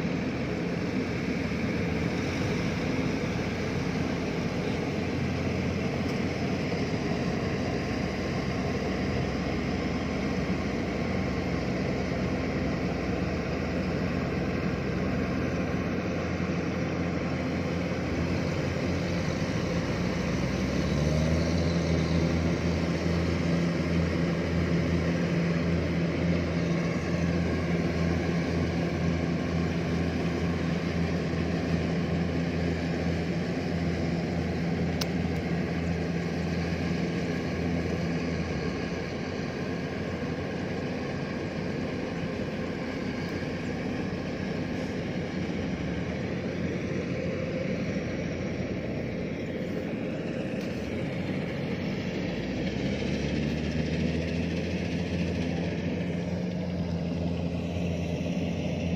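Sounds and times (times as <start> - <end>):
combine harvester diesel engine hum: 0.0 - 58.9.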